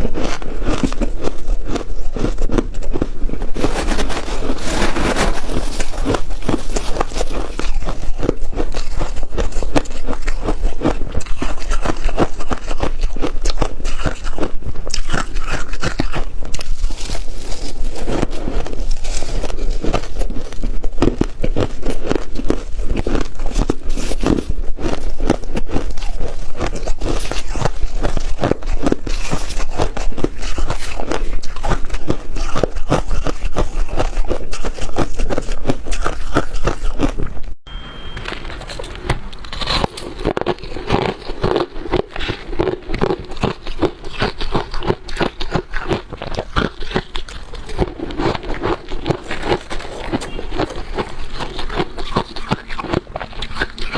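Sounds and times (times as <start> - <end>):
crisp crunches of chewing frost: 0.0 - 37.6, 38.3 - 53.9.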